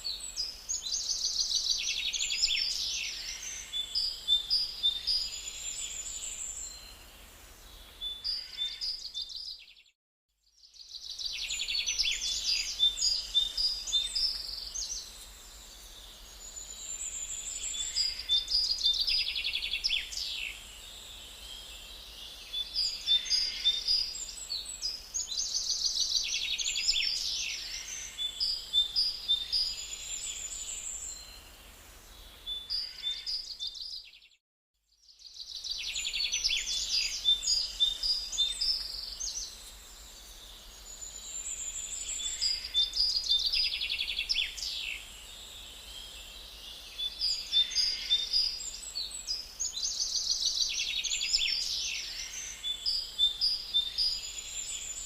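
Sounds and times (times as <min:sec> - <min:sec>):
songbirds trilling and chirping: 0:00.0 - 0:09.9, 0:10.6 - 0:34.4, 0:35.0 - 0:55.0.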